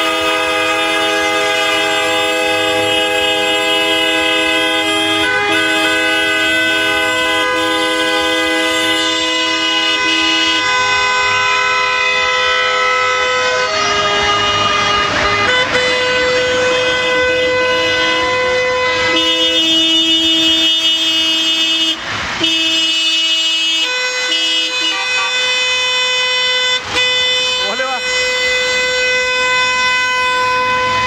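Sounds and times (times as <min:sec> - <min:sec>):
car horns honking: 0:00.0 - 0:31.0.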